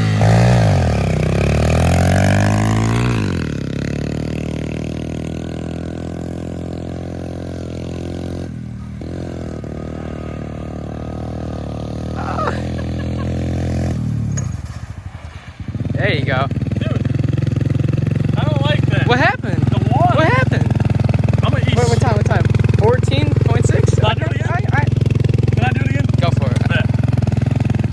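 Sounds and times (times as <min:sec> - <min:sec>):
pit bike engine revving: 0:00.0 - 0:27.9.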